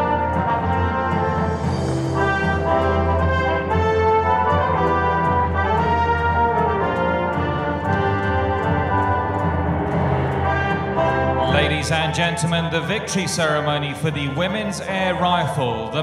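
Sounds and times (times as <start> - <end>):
orchestral music led by brass: 0.0 - 16.0.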